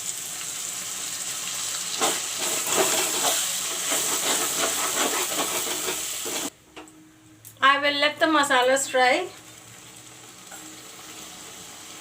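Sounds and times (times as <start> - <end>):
spice paste sizzling in oil: 0.0 - 6.6, 8.8 - 12.0.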